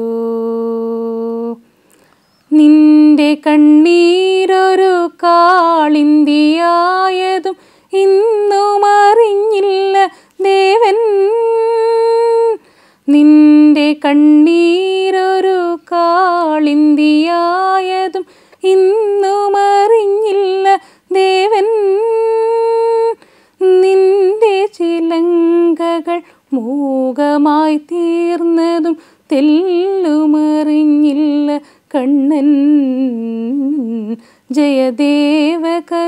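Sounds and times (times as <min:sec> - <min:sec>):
woman singing unaccompanied: 0:00.0 - 0:36.0.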